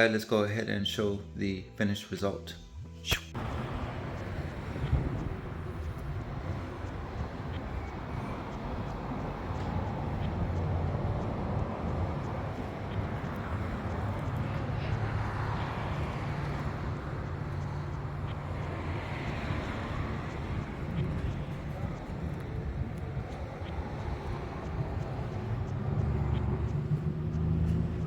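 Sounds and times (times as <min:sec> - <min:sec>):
outdoor background noise: 0:00.0 - 0:28.0
low engine-like hum: 0:03.4 - 0:28.0.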